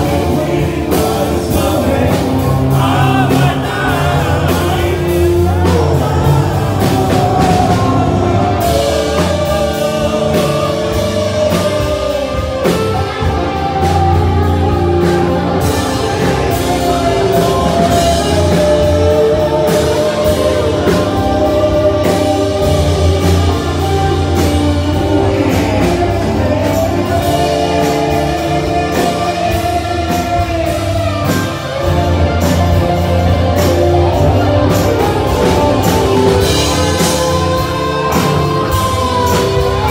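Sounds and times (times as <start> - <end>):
lead singer singing: 0.0 - 39.9
live rock band playing: 0.0 - 39.9.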